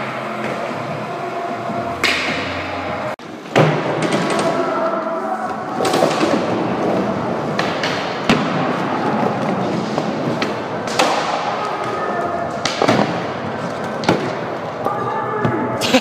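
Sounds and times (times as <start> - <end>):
skateboard wheels rumbling: 0.0 - 15.7.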